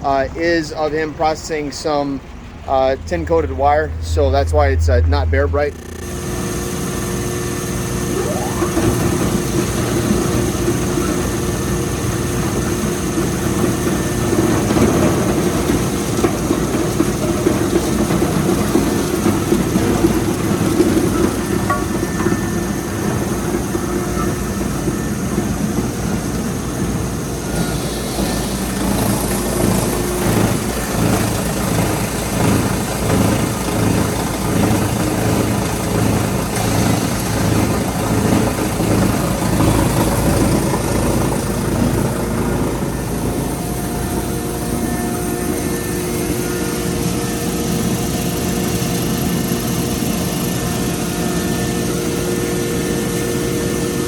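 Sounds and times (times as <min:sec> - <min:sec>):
wire shredder machine din: 0:00.0 - 0:54.0.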